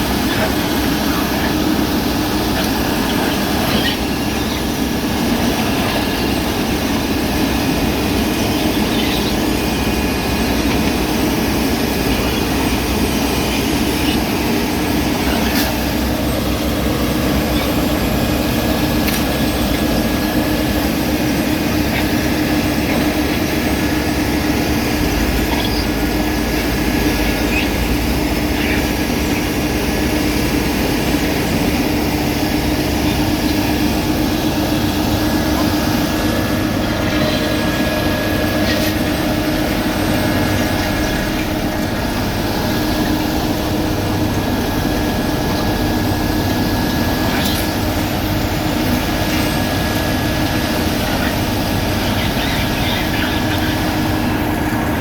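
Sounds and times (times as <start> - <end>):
paving machine engine running: 0.0 - 55.0.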